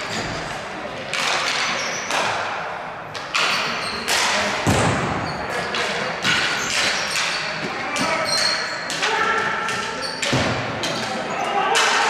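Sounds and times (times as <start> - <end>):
hockey sticks and ball hitting: 0.0 - 12.0.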